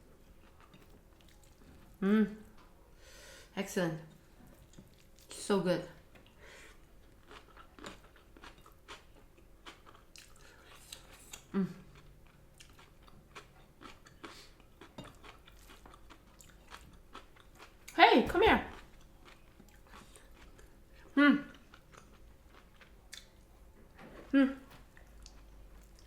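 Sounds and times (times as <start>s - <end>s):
chewing crunchy food: 0.2s - 2.7s, 4.1s - 5.4s, 6.0s - 18.0s, 18.7s - 24.0s, 24.7s - 26.0s.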